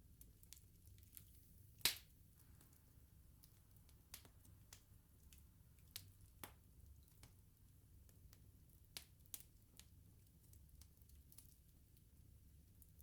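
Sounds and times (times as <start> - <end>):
bonfire crackling and popping: 0.2 - 12.0.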